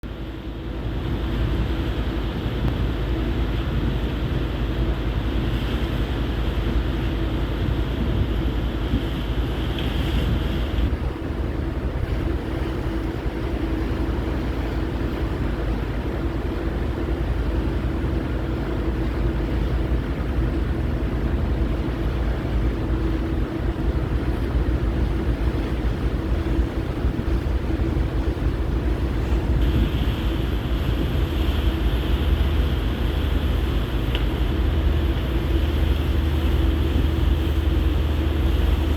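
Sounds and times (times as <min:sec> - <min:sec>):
marine diesel machinery drone: 0:00.0 - 0:38.9
wind buffeting microphone: 0:01.0 - 0:38.9.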